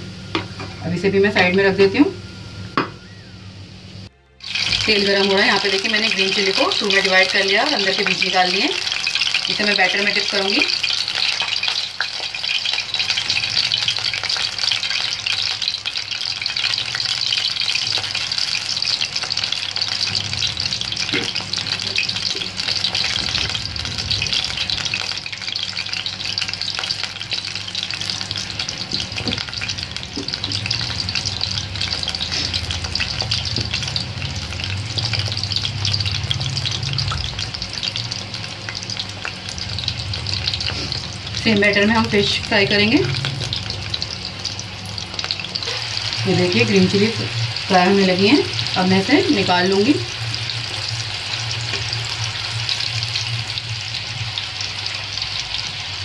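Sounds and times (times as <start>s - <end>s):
hot oil sizzling in a frying pan: 4.4s - 56.0s.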